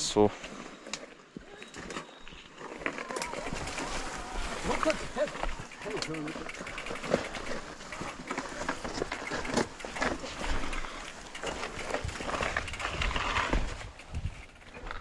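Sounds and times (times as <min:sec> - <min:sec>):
bike knocking and rattling: 0:02.7 - 0:15.0.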